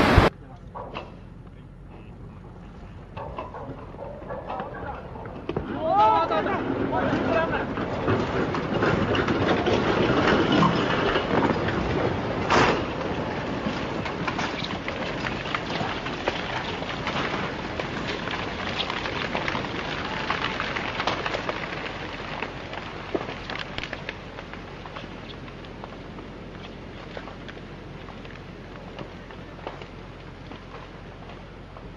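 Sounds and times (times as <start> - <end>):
landslide crackling rush: 0.0 - 0.3, 4.6 - 31.5.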